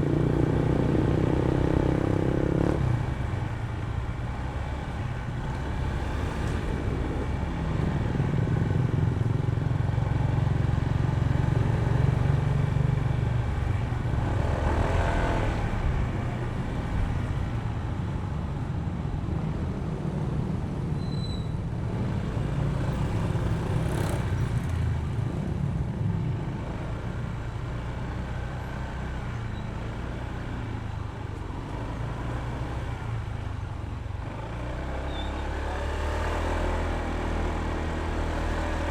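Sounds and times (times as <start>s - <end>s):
road and traffic noise: 0.0s - 38.9s
vehicles passing: 0.0s - 38.9s.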